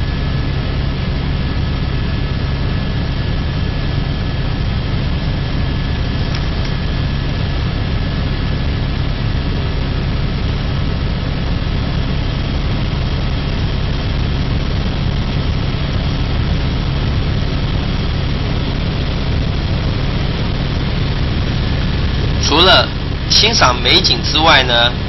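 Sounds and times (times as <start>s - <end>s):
helicopter engine and rotor noise: 0.0s - 25.0s.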